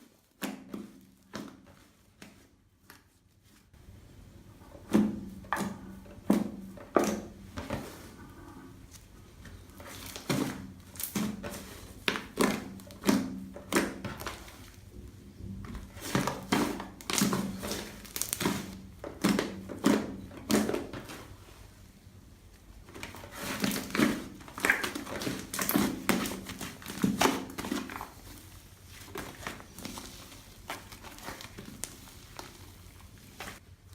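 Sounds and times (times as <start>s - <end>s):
slime squelching: 4.6s - 22.0s, 22.6s - 33.7s.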